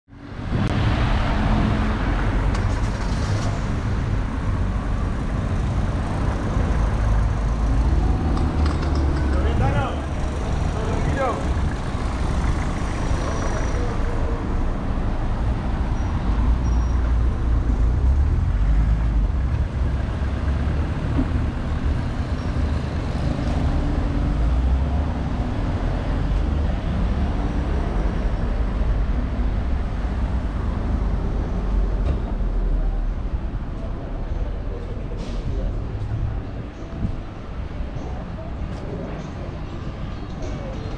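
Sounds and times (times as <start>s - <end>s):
vehicles passing: 0.1s - 40.9s.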